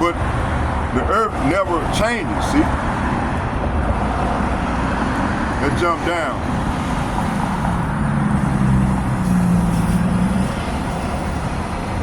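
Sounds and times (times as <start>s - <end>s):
road vehicle rumble: 0.0s - 12.0s
vehicle engine humming: 0.0s - 12.0s.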